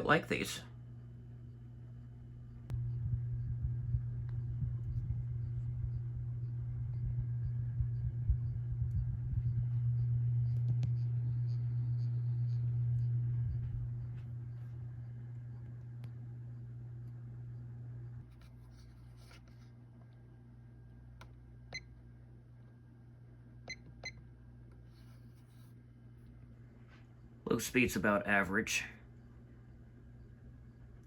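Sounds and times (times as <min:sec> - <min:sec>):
ceiling fan motor hum: 0:00.0 - 0:31.0.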